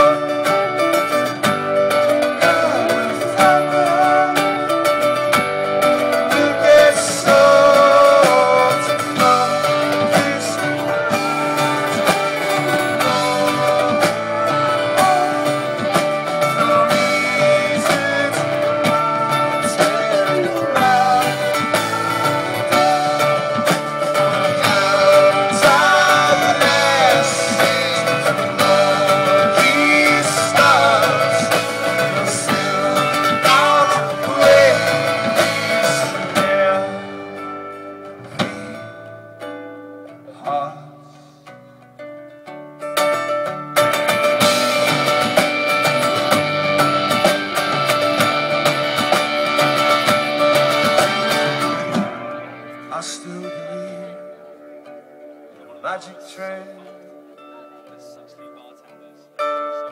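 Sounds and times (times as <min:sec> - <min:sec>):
pop-rock band playing: 0:00.0 - 0:59.9.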